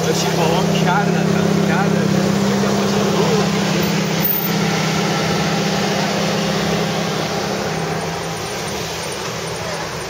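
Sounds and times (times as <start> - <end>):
car engine running at low revs: 0.0 - 10.0
road and traffic noise: 0.0 - 10.0.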